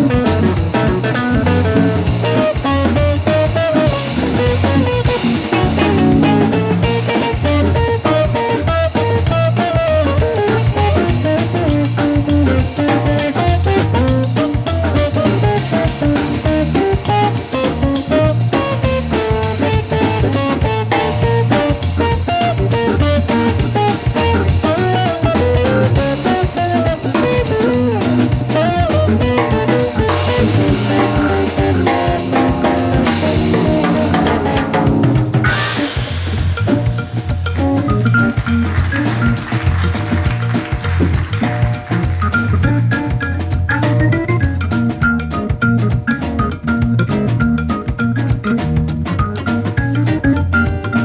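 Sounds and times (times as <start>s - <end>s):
drum kit: 0.0s - 51.0s
electric guitar melody: 0.0s - 51.0s
organ bass: 0.0s - 51.0s.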